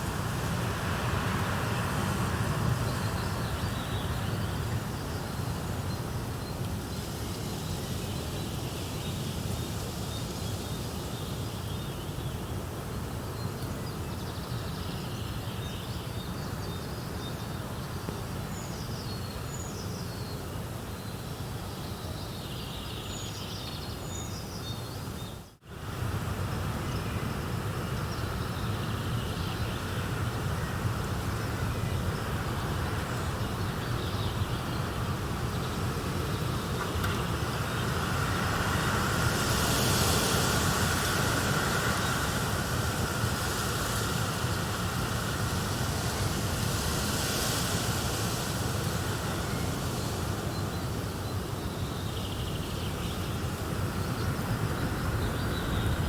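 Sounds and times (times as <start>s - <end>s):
continuous noisy hiss: 0.0s - 56.0s.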